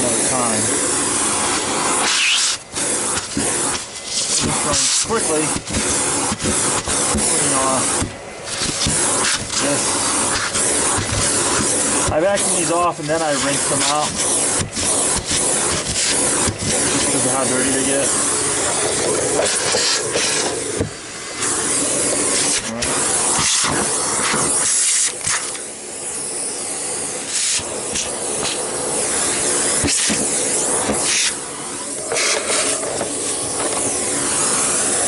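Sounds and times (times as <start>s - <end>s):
vacuum cleaner suction hiss: 0.0s - 35.0s.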